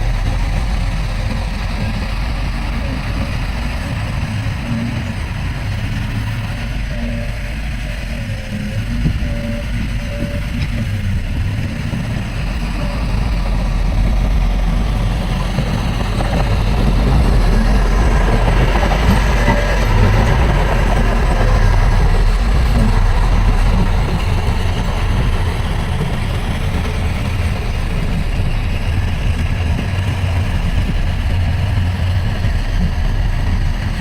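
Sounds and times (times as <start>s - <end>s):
diesel machinery engine rumble: 0.0s - 34.0s.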